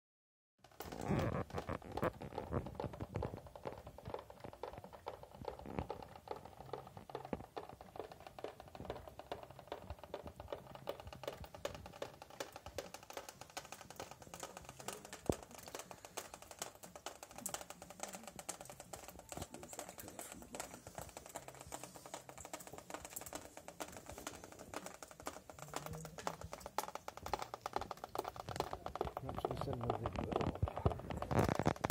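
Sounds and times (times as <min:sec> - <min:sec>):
water dripping into plastic bowls: 0:00.6 - 0:31.9
faint background music: 0:00.8 - 0:31.9.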